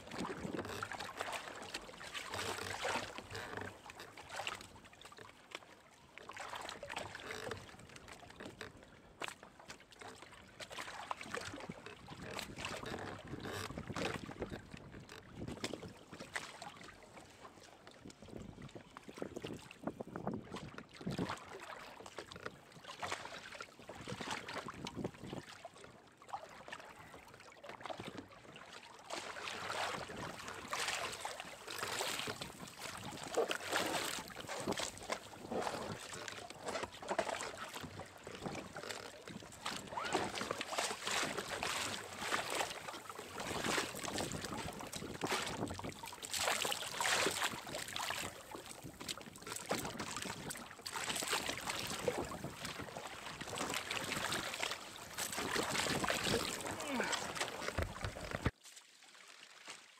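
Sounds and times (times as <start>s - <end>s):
water slapping against kayak hull: 0.0s - 17.4s, 18.1s - 58.8s.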